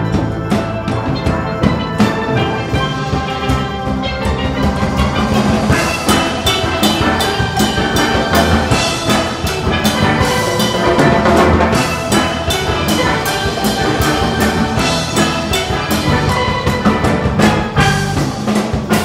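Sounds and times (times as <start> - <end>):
drums and percussion: 0.0 - 19.0
steel pans playing a melody: 0.0 - 19.0.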